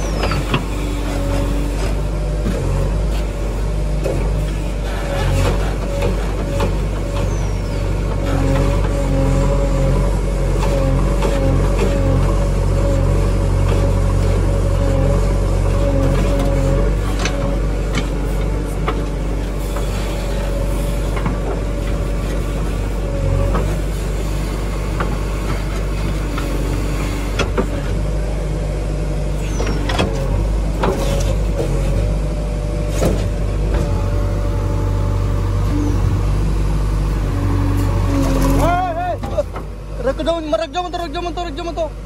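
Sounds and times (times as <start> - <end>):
diesel engine running: 0.0 - 42.0
hydraulic whine: 0.0 - 42.0.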